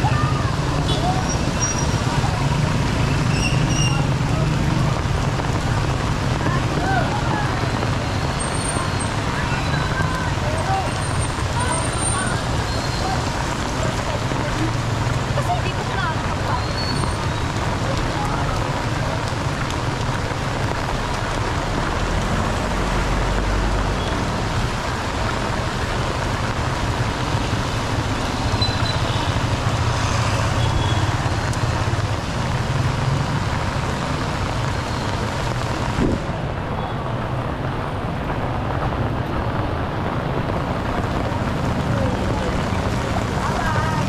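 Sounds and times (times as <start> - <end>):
heavy rain on wet street: 0.0 - 44.0
traffic on wet road: 0.0 - 44.0.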